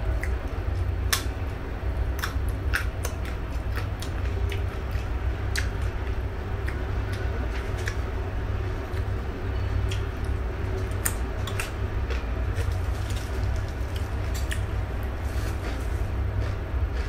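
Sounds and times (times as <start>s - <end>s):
crunchy chewing of raw vegetables: 0.0s - 17.0s
steady low hum: 0.0s - 17.0s.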